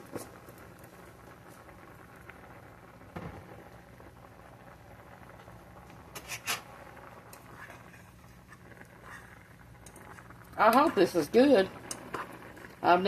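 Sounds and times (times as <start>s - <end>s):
water boiling and bubbling: 0.0s - 13.0s.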